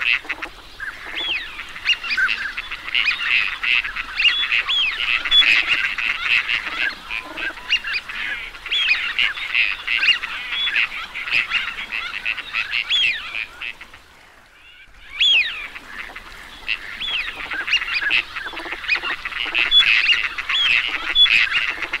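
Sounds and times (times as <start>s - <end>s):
ducks whistling calls: 0.0s - 14.0s, 14.7s - 22.0s.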